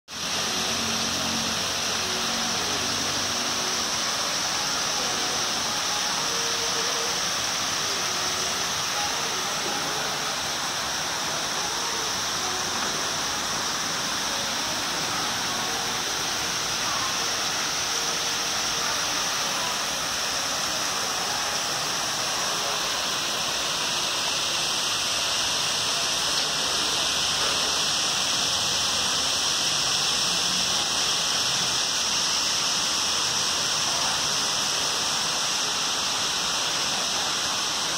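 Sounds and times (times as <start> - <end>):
water rushing from waterfall: 0.1 - 37.9.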